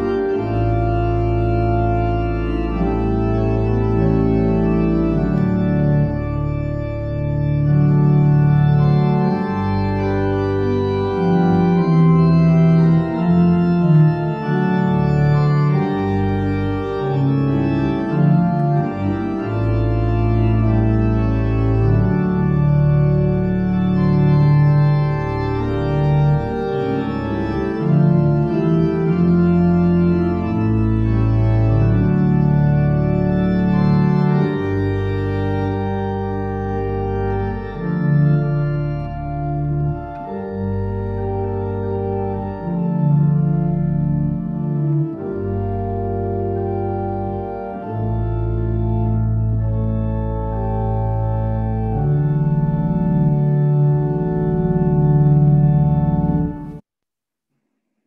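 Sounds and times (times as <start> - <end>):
pipe organ chords: 0.0 - 56.8.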